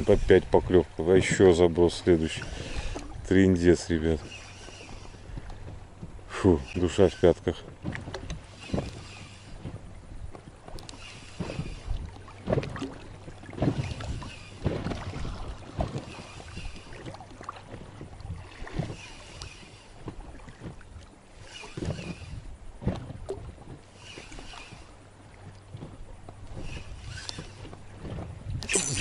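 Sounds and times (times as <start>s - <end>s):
water sloshing and splashing: 0.0s - 29.0s
wind rumble on microphone: 0.0s - 29.0s.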